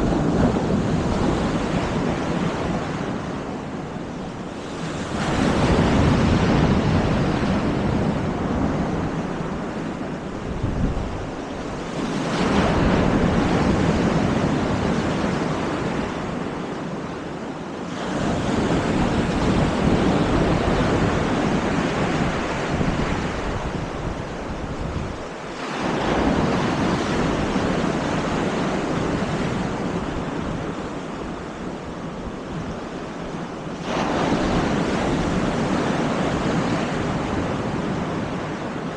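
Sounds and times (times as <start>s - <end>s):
waves breaking on beach: 0.0s - 38.9s
wind buffeting microphone: 0.0s - 38.9s.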